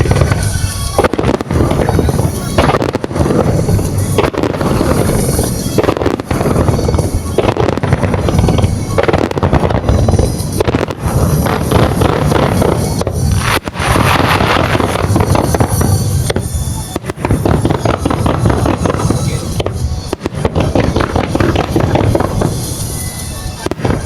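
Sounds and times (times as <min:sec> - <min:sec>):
fireworks bangs and crackles: 0:00.0 - 0:24.0
music: 0:00.0 - 0:24.0.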